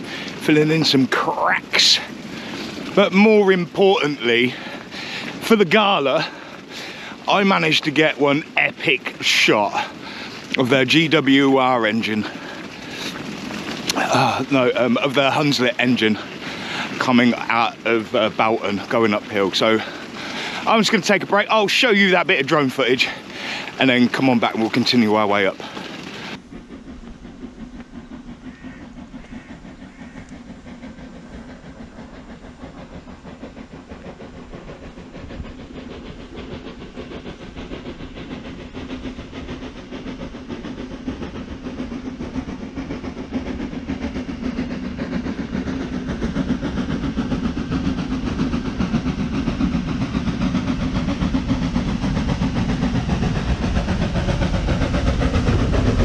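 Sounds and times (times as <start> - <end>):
steam locomotive hauling train: 0.0 - 56.0.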